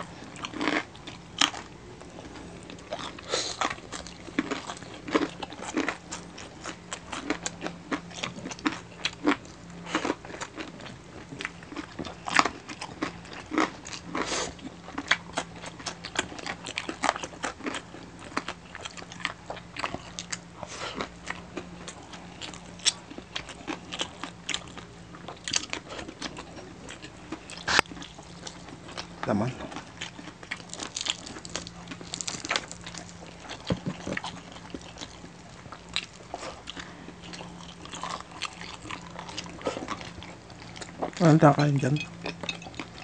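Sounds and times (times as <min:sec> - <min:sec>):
faint low hum: 0:00.0 - 0:43.0
people crunching crispy pork: 0:00.0 - 0:43.0.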